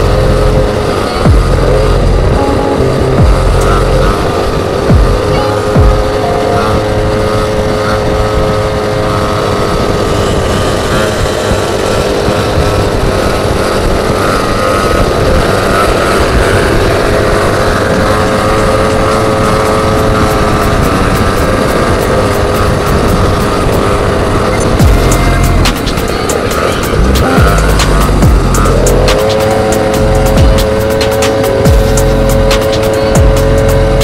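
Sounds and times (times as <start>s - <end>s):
small petrol scooter engine: 0.0s - 34.0s.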